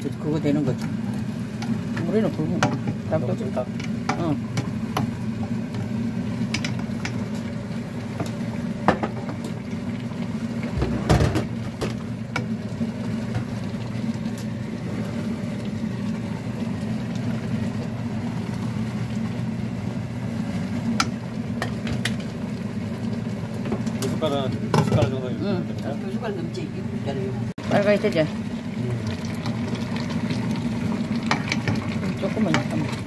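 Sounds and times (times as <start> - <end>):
pot cooking with low hum: 0.0 - 33.0.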